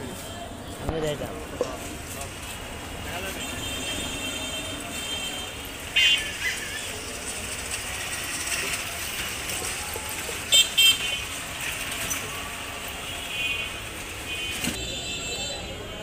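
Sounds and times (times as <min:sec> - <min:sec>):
street background noise: 0:00.0 - 0:16.0.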